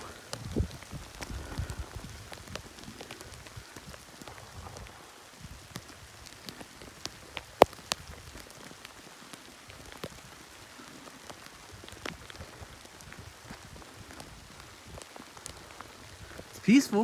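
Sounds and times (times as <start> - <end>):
hail hissing: 0.0 - 17.0
hailstones ticking: 0.0 - 17.0.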